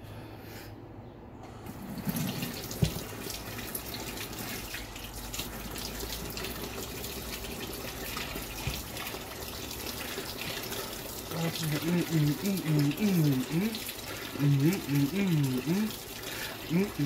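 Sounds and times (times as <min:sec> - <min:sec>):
faucet water splashing: 0:01.7 - 0:17.0.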